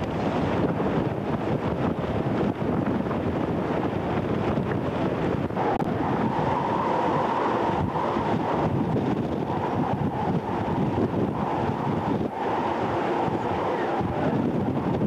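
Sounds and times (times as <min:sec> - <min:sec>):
rush of wind and sea: 0:00.0 - 0:15.0
steady mid-pitched hum: 0:00.0 - 0:15.0
wind buffeting microphone: 0:00.0 - 0:15.0.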